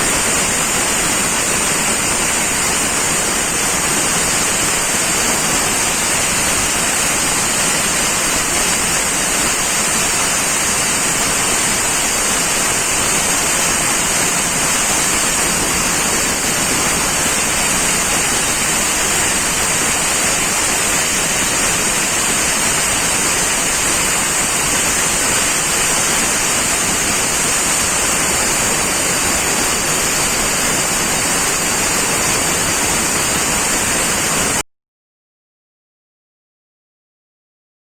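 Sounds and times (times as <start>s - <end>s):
band saw machine running: 0.0s - 33.9s.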